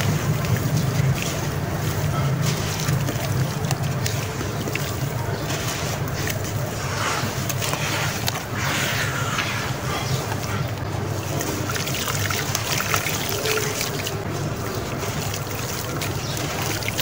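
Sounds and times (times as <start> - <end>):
grains splashing into water: 0.0 - 17.0.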